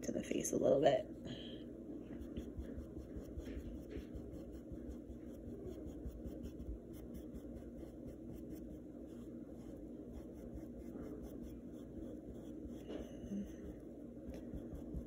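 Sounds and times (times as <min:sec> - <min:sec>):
paintbrush brushing on canvas: 0:02.0 - 0:15.0.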